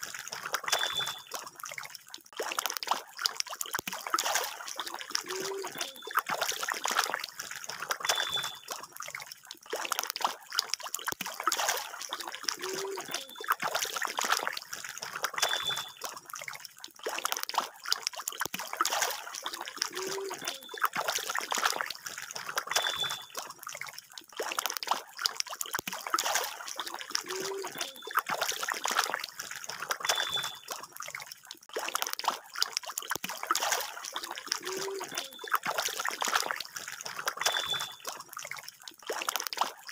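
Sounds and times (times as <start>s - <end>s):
catfish splashing in water: 0.0s - 39.9s.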